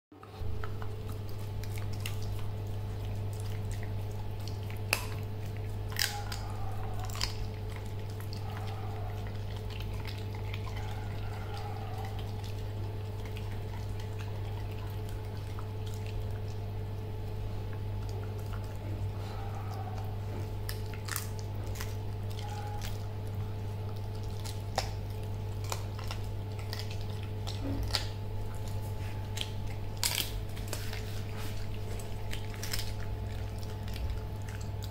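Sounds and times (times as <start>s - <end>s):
puppy chewing wet mouth sounds: 0.1s - 34.9s
teeth clicking on bone: 0.5s - 31.0s, 31.6s - 34.9s.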